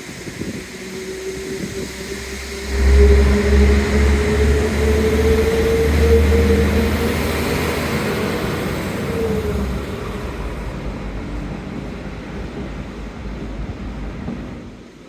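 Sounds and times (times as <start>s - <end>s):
diesel train engine droning: 0.0s - 15.0s.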